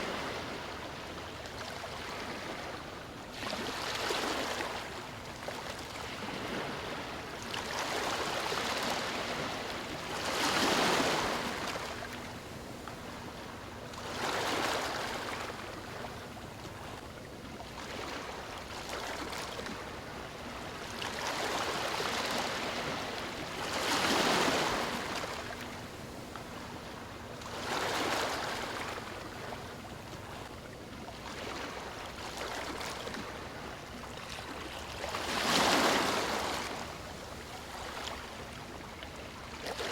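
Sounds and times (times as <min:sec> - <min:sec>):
ocean waves lapping on shore: 0:00.0 - 0:39.9.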